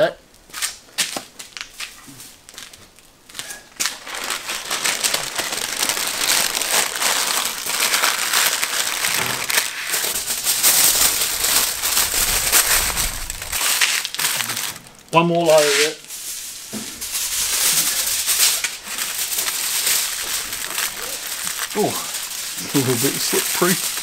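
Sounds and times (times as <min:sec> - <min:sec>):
baking paper crinkling: 0:00.5 - 0:24.0.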